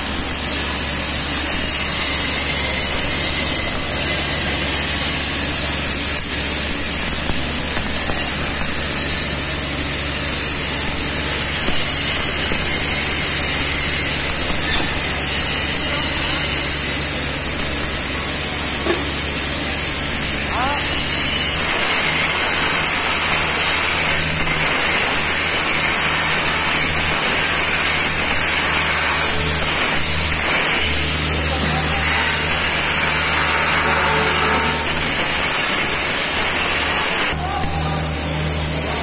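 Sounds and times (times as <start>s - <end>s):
arc welding hiss: 0.0s - 39.0s
fabrication shop noise: 0.0s - 39.0s.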